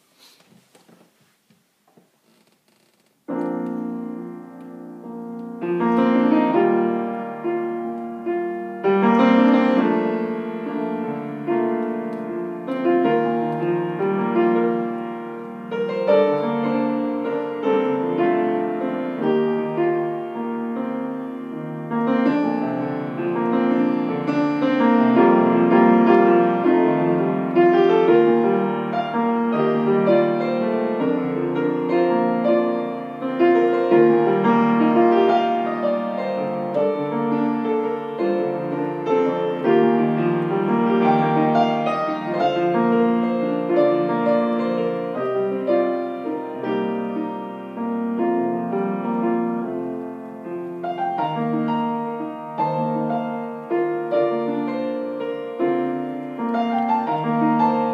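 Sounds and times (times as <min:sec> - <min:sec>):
solo grand piano: 0:00.0 - 0:57.9.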